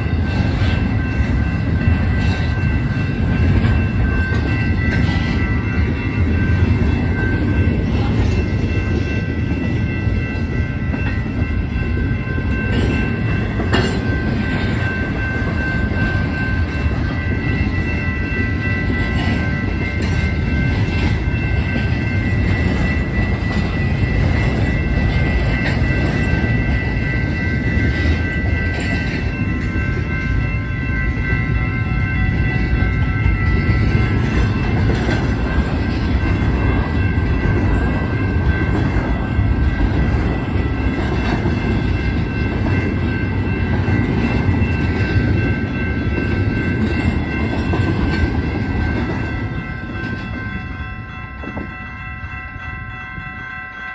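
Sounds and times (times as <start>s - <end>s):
freight train rumbling past: 0.0s - 53.9s
high-pitched crossing bell ringing: 0.0s - 53.9s.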